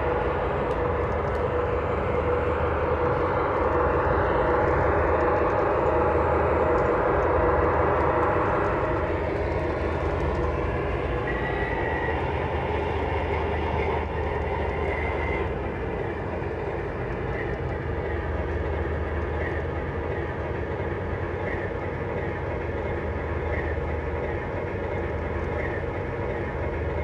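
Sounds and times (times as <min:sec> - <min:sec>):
model locomotive diesel engine drone: 0:00.0 - 0:27.0.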